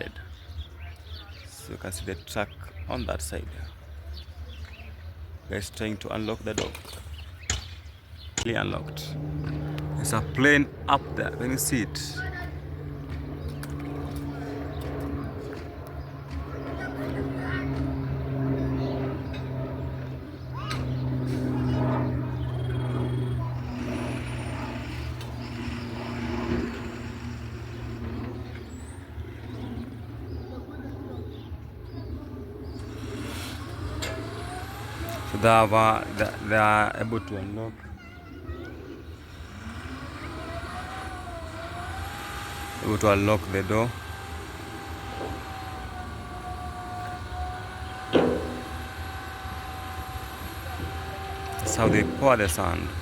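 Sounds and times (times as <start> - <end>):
truck engine idling: 8.4 - 30.6, 32.2 - 53.0.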